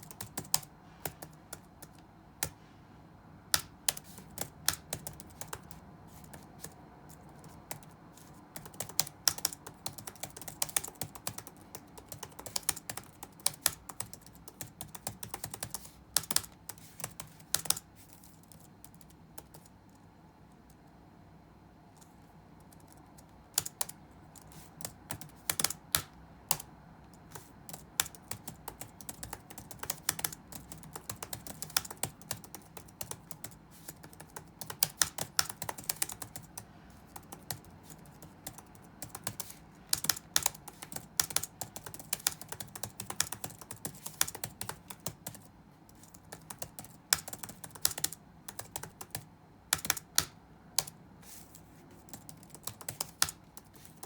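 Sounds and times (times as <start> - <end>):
typing on computer keyboard: 0.0 - 2.6, 3.5 - 19.9, 22.6 - 51.0, 52.0 - 54.0
faint low room hum: 0.0 - 54.0.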